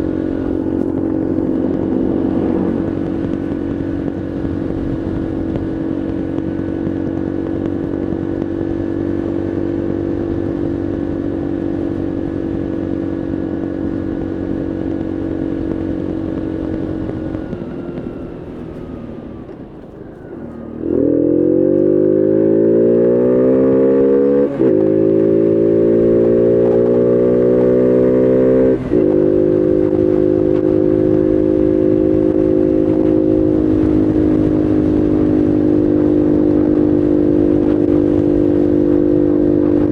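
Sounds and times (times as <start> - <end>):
gear changes: 0.0 - 39.9
motorbike engine: 0.0 - 39.9.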